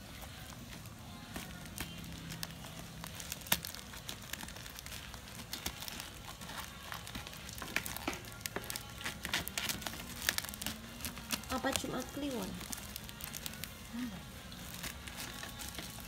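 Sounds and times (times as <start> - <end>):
crinkling of tape and plastic wrap: 0.0 - 16.0
fingers scratching at parcel: 0.0 - 16.0.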